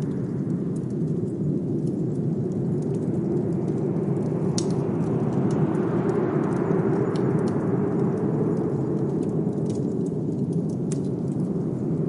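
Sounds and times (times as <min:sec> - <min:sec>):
fireplace crackles: 0:00.0 - 0:12.0
wind rumbling and hissing: 0:00.0 - 0:12.0.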